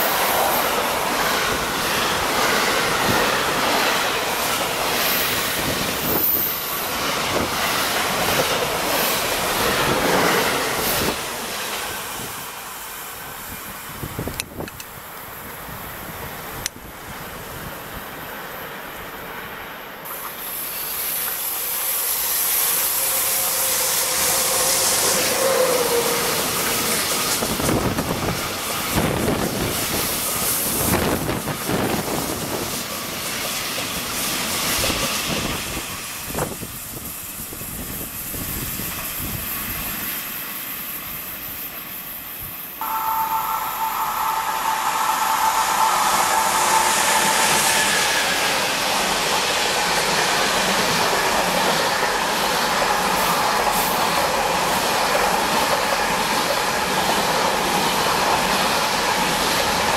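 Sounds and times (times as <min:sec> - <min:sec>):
train wheels rumbling on rails: 0:00.0 - 0:19.4, 0:20.0 - 0:59.9
electric locomotive whine: 0:00.0 - 0:59.9.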